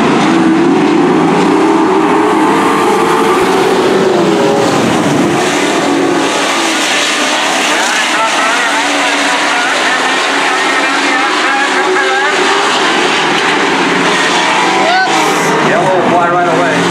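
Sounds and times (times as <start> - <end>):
race truck engines revving: 0.0 - 16.9.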